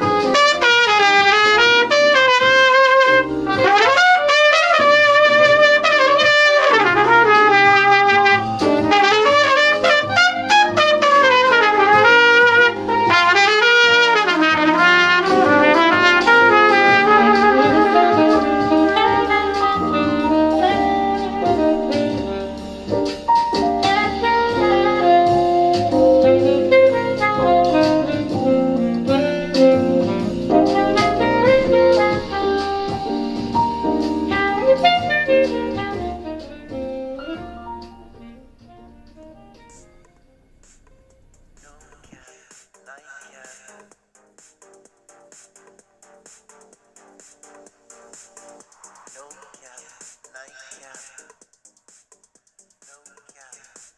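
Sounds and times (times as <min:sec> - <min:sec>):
jazz trumpet: 0:00.0 - 0:42.9, 0:43.7 - 0:49.7
piano backing track: 0:00.0 - 0:52.8.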